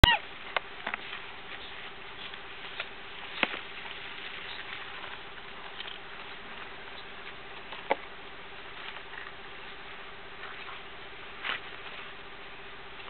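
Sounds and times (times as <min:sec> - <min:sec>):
faint hiss and low hum: 0:00.0 - 0:13.0.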